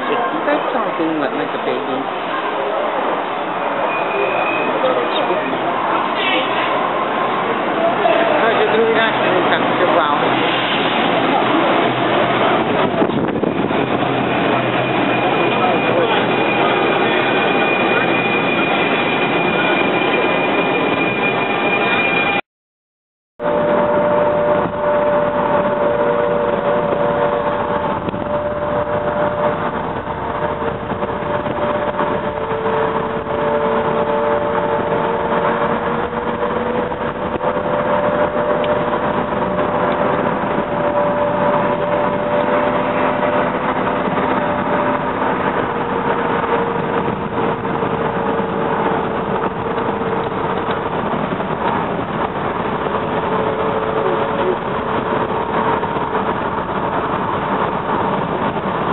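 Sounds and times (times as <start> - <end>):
steady train hums: 0.0 - 22.4, 23.4 - 58.9
wheels rumbling on rail: 0.0 - 22.4, 23.4 - 58.9.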